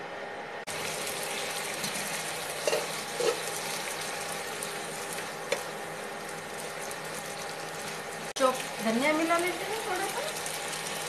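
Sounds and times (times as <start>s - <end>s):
food sizzling in frying pan: 0.7s - 11.0s.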